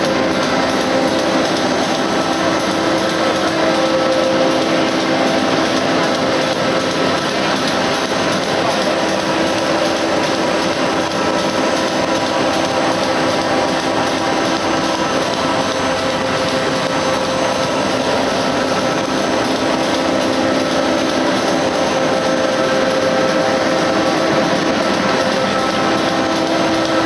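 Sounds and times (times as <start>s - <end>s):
constant machine hum: 0.0s - 27.0s
printing machine whirring: 0.0s - 27.0s.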